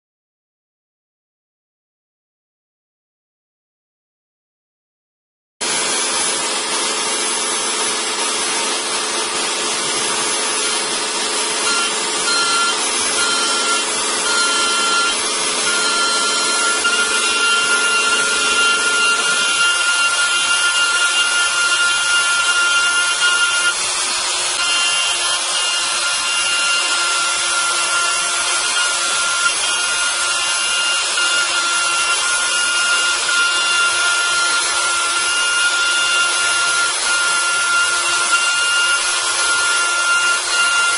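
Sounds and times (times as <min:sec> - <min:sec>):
cutter hissing into block: 0:05.6 - 0:40.9
router motor high whine: 0:05.6 - 0:40.9.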